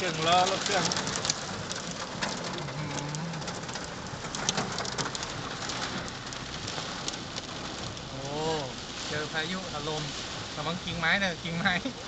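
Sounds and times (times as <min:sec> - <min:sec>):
hailstones ticking on hard surfaces: 0:00.0 - 0:12.0
heavy rain hissing: 0:00.0 - 0:12.0.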